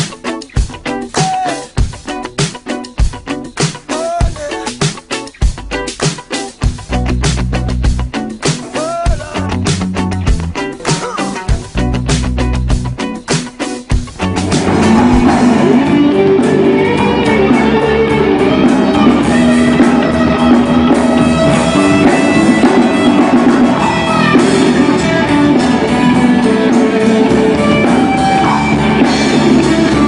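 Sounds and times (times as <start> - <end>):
rock music: 0.0 - 30.0.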